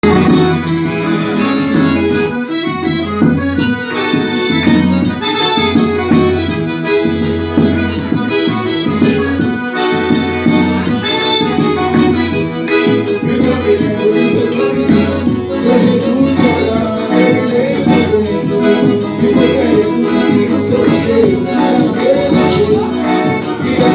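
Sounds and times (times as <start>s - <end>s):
accordion: 0.0s - 23.9s
percussion beat: 0.0s - 23.9s.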